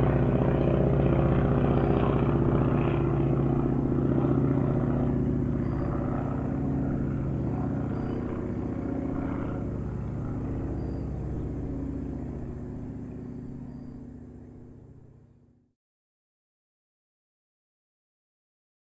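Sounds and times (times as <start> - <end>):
propeller airplane engine: 0.0 - 15.7.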